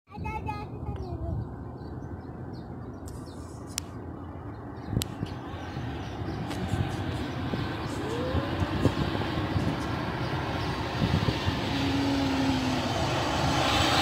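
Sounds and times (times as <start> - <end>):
jet airliner engines rumbling: 0.1 - 14.0.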